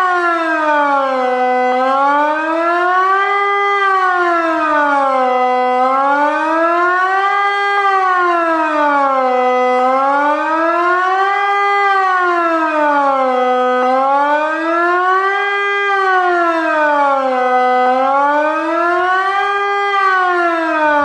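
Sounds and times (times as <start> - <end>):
civil defence siren wailing: 0.0 - 21.0.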